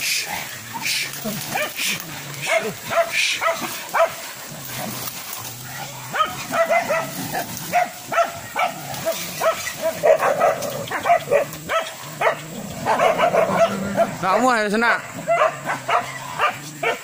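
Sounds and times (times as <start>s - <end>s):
dogs barking sharply: 1.5s - 4.3s, 6.1s - 17.0s.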